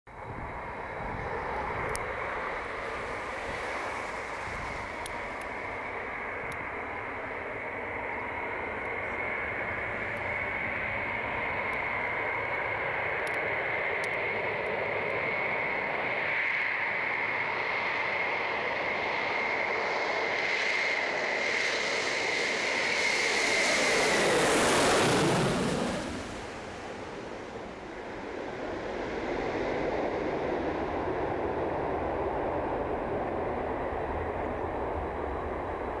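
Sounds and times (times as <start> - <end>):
engine rumble: 0.1 - 16.1, 21.0 - 36.0
aircraft passing overhead: 0.1 - 36.0
jet engines whining: 0.1 - 36.0.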